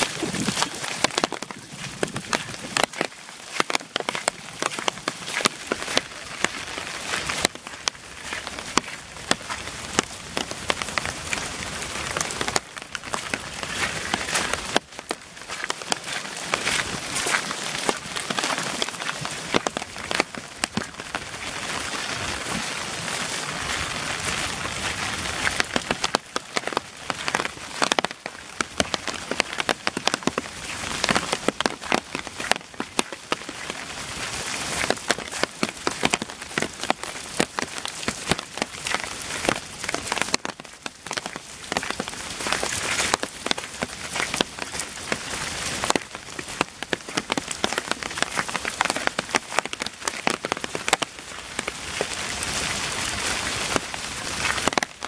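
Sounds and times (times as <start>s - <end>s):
rain falling steadily: 0.0s - 55.0s
raindrops ticking: 0.0s - 55.0s.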